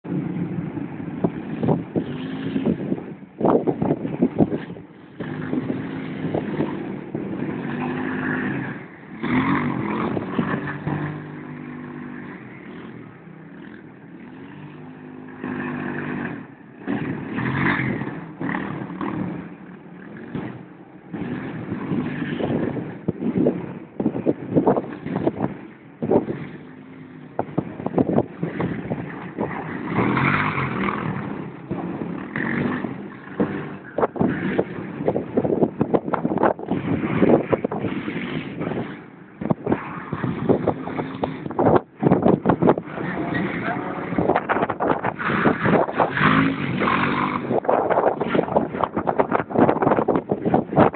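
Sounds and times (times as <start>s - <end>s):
engine crackles and knocks: 0.0s - 50.9s
quad bike engine revving: 1.1s - 50.9s.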